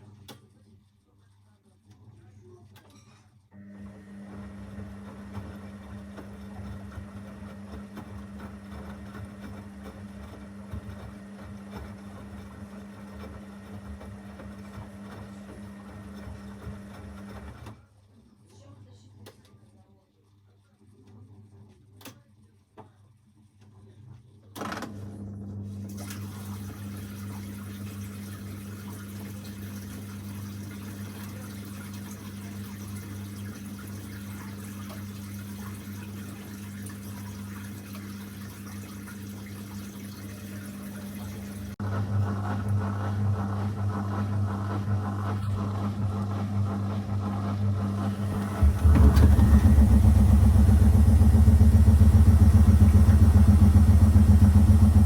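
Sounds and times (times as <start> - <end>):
washing machine motor humming: 3.6 - 17.8, 24.6 - 55.0.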